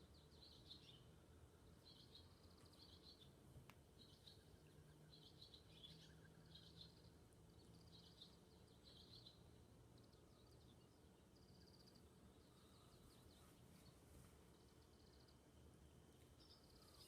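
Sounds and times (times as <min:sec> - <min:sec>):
faint low hum: 0:00.0 - 0:17.0
small birds twittering: 0:00.0 - 0:17.0.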